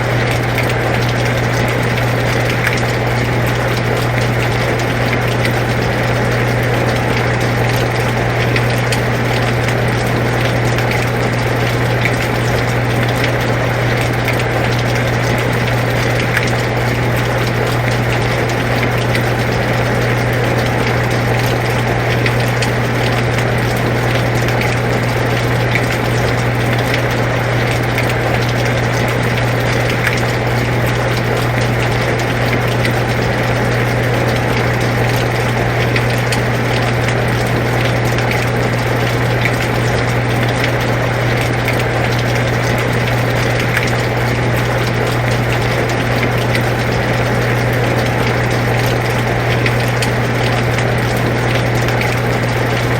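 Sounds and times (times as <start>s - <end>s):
air conditioner humming: 0.0s - 52.9s
rain drop ticks: 0.0s - 52.9s.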